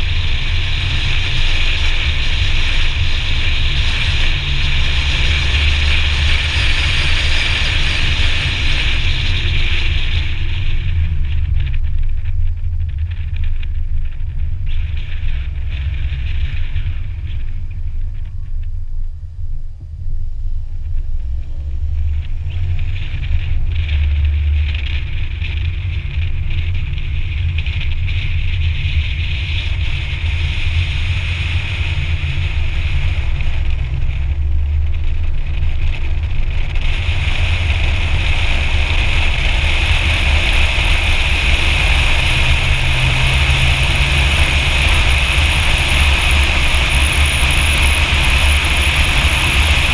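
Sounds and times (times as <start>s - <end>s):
road and tyre noise: 0.0s - 49.9s
wind buffeting microphone: 0.0s - 49.9s.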